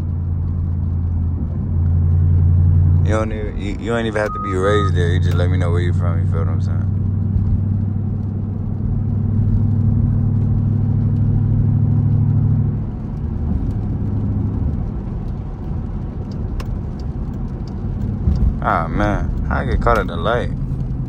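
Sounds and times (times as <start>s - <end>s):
car engine droning: 0.0s - 21.0s
road noise: 0.0s - 21.0s.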